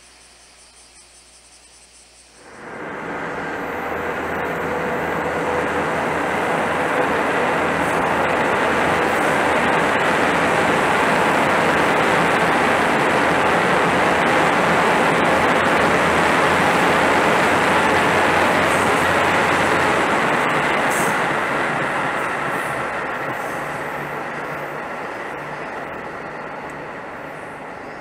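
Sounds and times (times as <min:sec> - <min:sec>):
trains passing rumble: 0:02.2 - 0:28.0.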